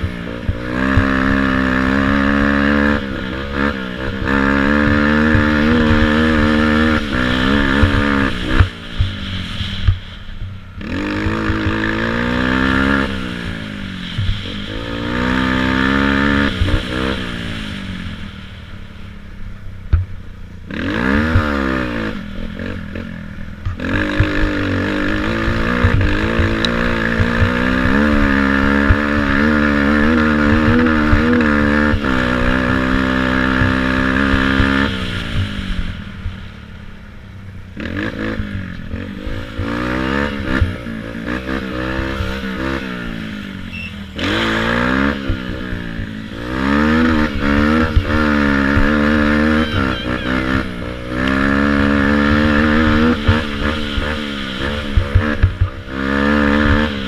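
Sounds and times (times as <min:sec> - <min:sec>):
quad engine revving: 0:00.0 - 0:19.2, 0:19.8 - 0:57.0.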